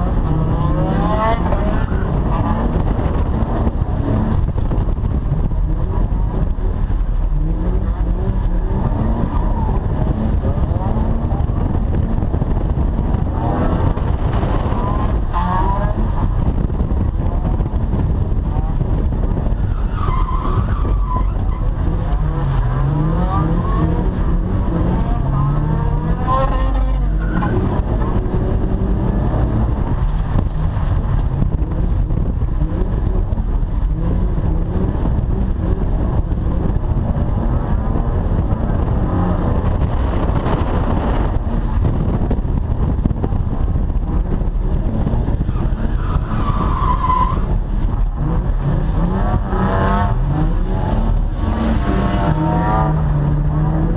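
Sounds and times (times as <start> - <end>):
car engine revving: 0.0 - 53.9
low rumble: 0.0 - 53.9.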